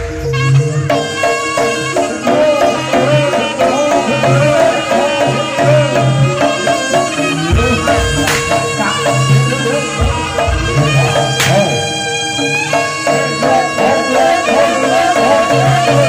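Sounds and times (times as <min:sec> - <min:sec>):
wavering melody line: 0:00.0 - 0:16.0
hand drums beating: 0:00.4 - 0:16.0.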